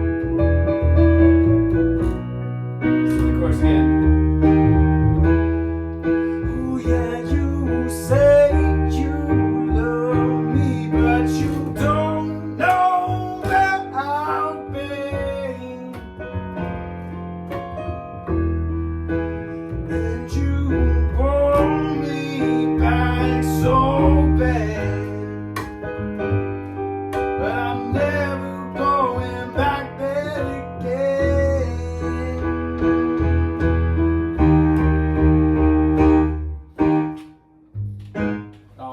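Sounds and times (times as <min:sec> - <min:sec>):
guitar: 0:00.0 - 0:38.9
keyboard: 0:00.0 - 0:38.9.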